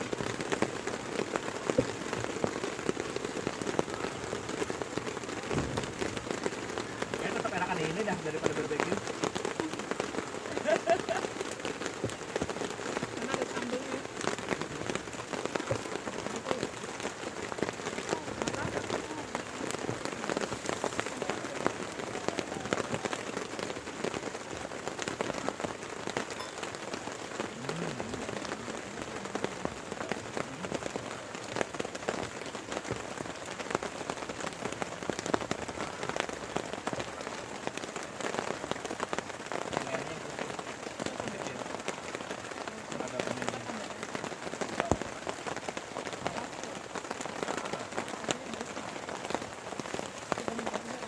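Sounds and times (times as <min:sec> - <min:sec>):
heavy rain pouring: 0:00.0 - 0:51.0
raindrops pattering close by: 0:00.0 - 0:51.0.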